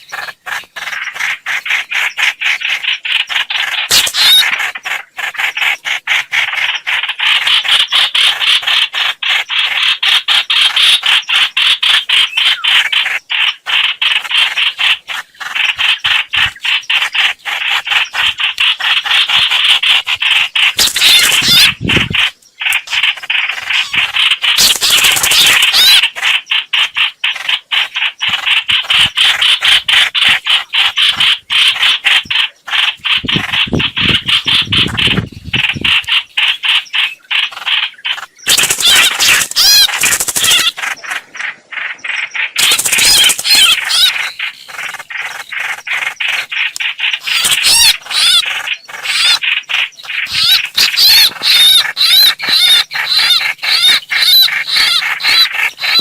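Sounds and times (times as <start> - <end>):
bird call chattering: 0.0 - 56.0.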